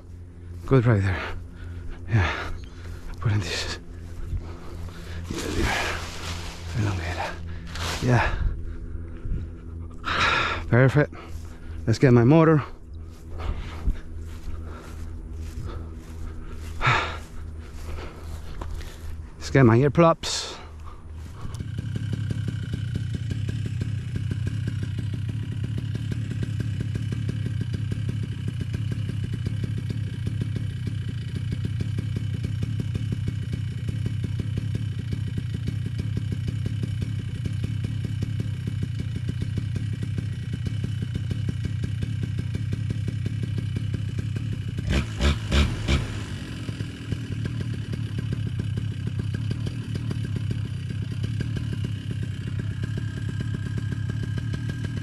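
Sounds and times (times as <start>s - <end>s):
paramotor engine idling: 0.0s - 55.0s.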